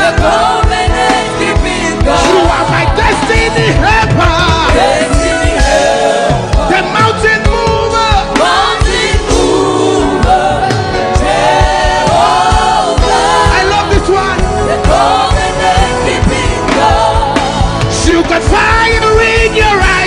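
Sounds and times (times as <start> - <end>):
band with steady drum beat: 0.0 - 20.0
choir singing: 0.0 - 20.0.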